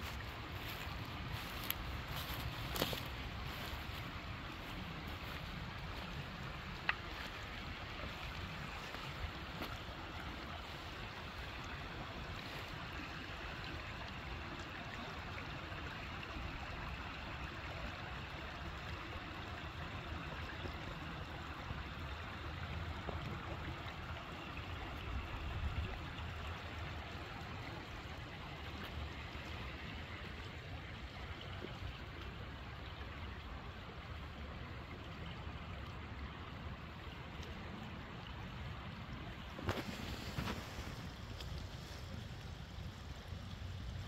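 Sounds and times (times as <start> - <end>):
river babbling over stones: 0.0 - 44.0.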